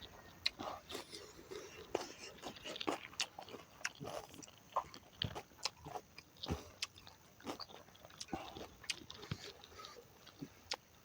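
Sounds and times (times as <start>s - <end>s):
person chewing with wet smacks: 0.4s - 10.9s.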